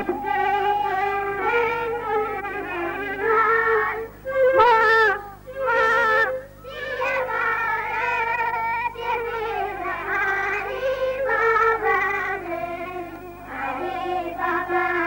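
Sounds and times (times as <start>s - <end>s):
children singing into microphone: 0.0s - 15.0s.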